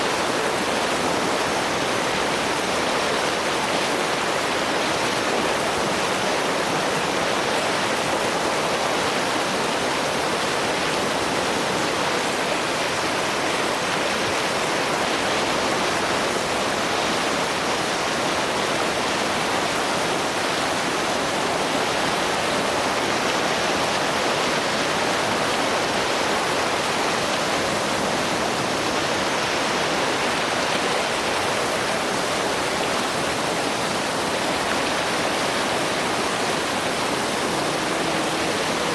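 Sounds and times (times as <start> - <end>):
water roaring over rapids: 0.0 - 38.9.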